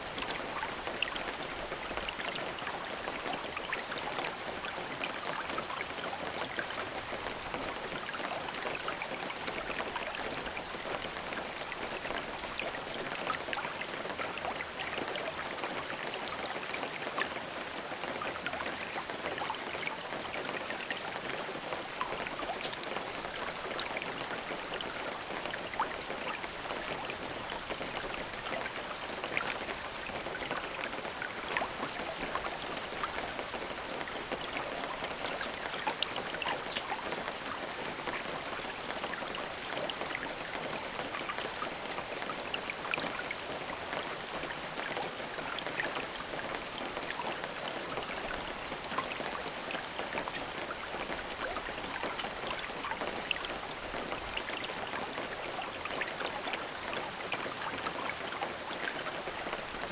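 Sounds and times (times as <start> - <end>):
raindrops pattering on surfaces: 0.0 - 59.9.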